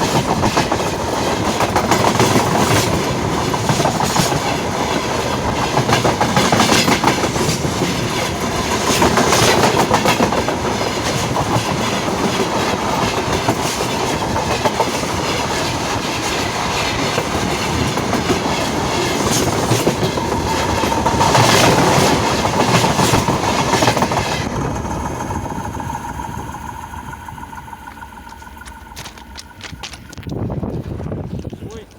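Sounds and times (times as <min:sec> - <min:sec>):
railway wagon wheels clattering: 0:00.0 - 0:31.9.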